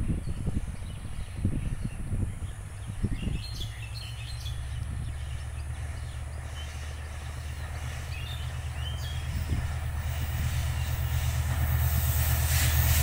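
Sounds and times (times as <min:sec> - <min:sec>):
distant locomotive engine drone: 0:00.0 - 0:13.0
birds chirping: 0:00.2 - 0:11.9.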